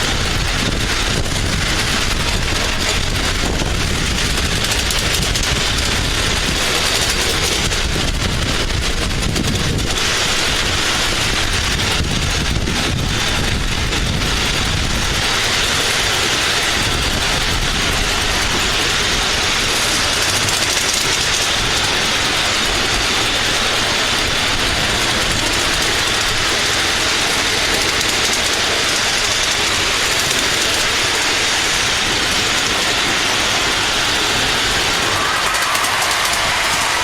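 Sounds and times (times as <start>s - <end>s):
model train running on track: 0.0s - 37.0s.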